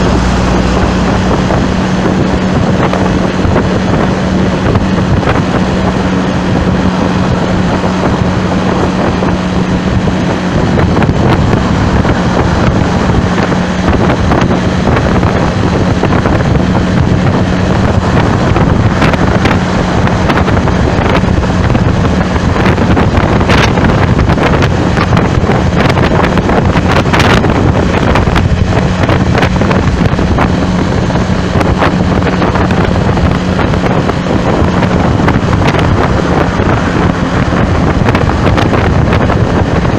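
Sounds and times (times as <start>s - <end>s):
vehicle engine drone: 0.0s - 39.9s
wind buffeting microphone: 0.0s - 39.9s.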